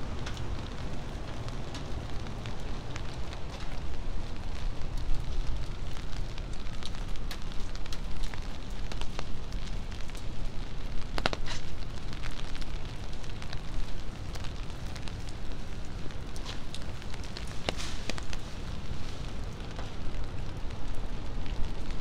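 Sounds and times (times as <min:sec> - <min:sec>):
low city rumble: 0:00.0 - 0:22.0
rain pattering: 0:00.0 - 0:22.0.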